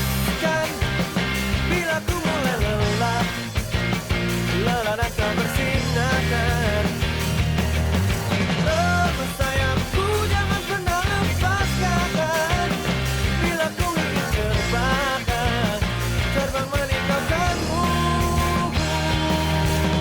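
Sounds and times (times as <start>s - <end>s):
rock music: 0.0s - 20.0s.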